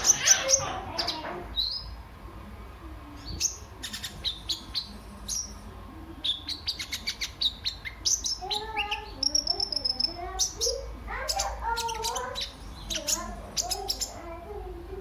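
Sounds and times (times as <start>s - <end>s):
small bird singing high chirps: 0.0s - 2.0s, 3.2s - 5.6s, 6.2s - 14.3s.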